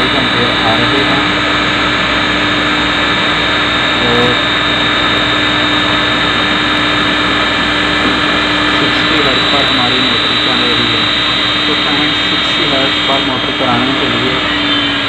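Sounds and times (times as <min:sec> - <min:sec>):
electric motor humming and whining: 0:00.0 - 0:15.0.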